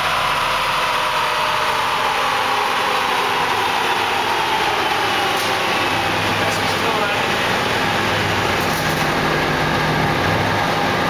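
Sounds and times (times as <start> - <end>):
car engine idling: 0.0 - 11.0
wheel whine falling in pitch: 0.0 - 11.0.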